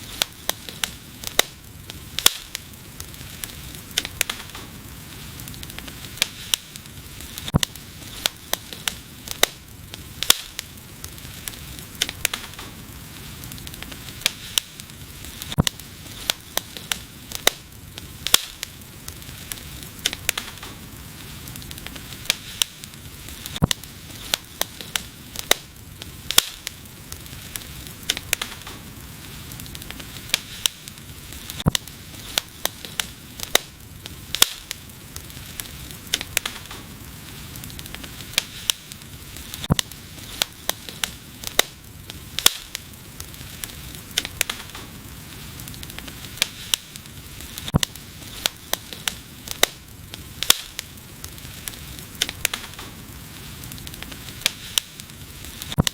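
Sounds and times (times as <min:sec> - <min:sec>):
soft steady hiss: 0:00.0 - 0:55.9
wood fire crackling: 0:00.0 - 0:55.9.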